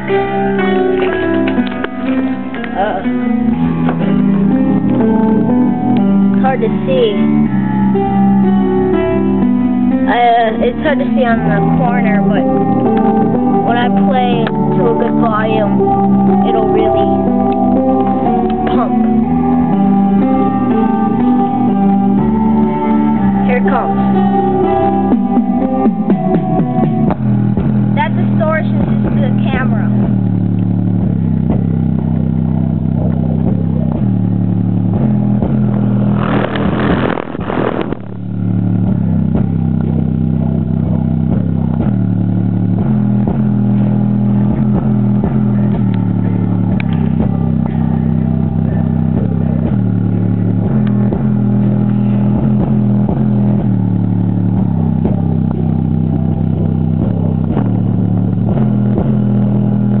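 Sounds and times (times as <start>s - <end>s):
distorted bass-heavy electronic music: 0.0s - 60.0s.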